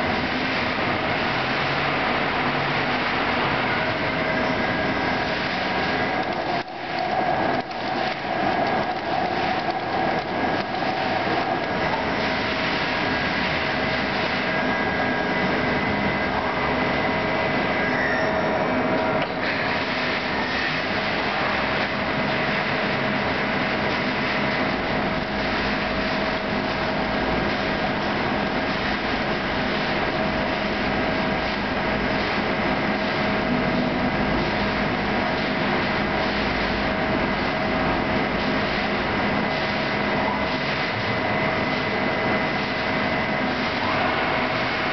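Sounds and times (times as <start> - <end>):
coolant hiss: 0.0 - 44.9
lathe machining whine: 0.0 - 44.9.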